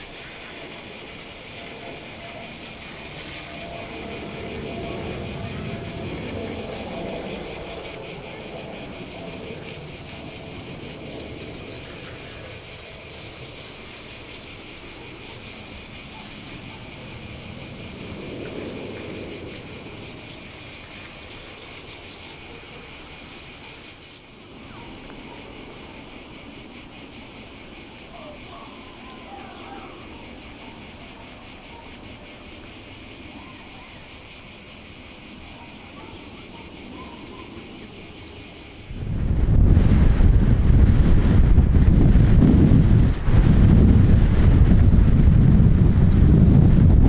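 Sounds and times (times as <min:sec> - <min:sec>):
insects buzzing: 0:00.0 - 0:47.0.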